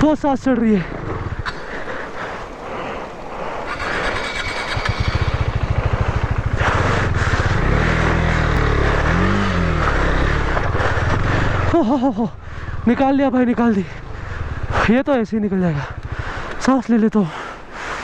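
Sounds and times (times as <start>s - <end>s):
motorcycle engine revving: 0.8s - 16.8s.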